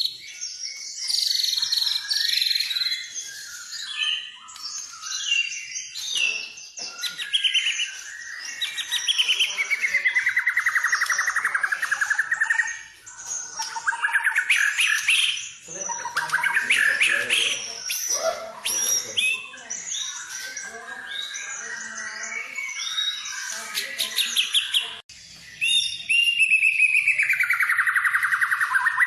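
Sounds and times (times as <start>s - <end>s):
bird singing whistles and trills: 0.0s - 29.0s.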